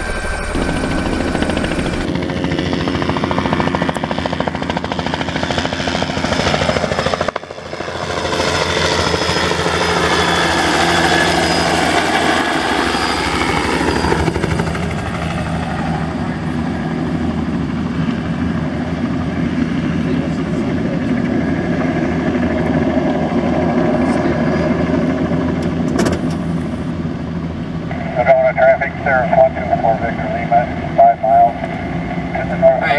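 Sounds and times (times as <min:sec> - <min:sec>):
helicopter rotor blades chopping: 0:00.0 - 0:28.3
helicopter turbine engine: 0:00.0 - 0:32.9.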